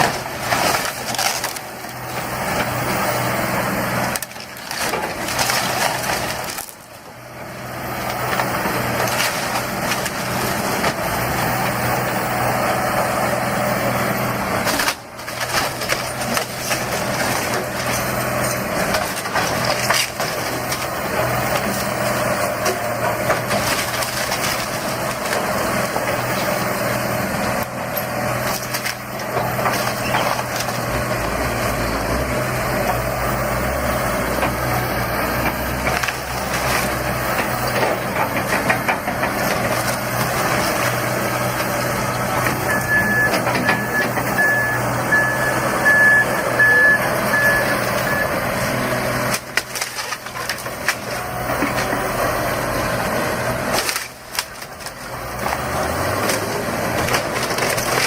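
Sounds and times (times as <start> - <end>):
demolition debris crushing: 0.0 - 58.0
diesel engine running: 0.0 - 58.0.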